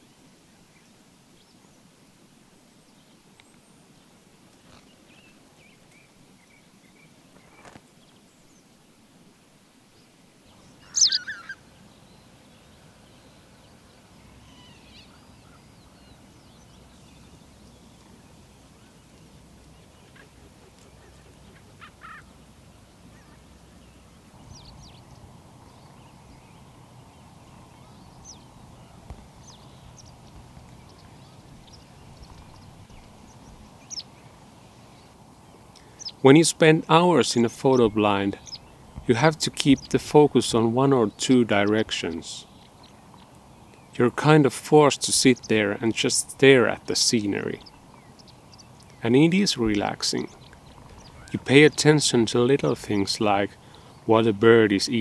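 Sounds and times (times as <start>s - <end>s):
faint steady background: 0.0s - 55.0s
wild birds calling: 9.8s - 55.0s.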